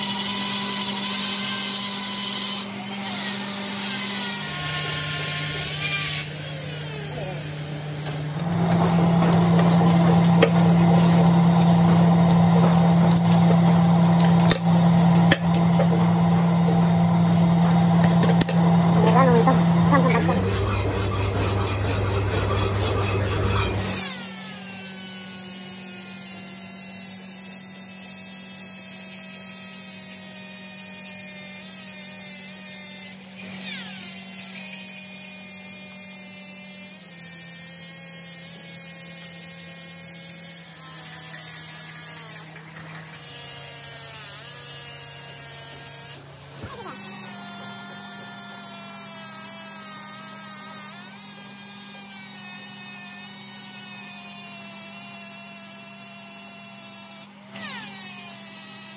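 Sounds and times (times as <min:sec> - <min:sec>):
die grinder whining on steel: 0:00.0 - 0:58.9.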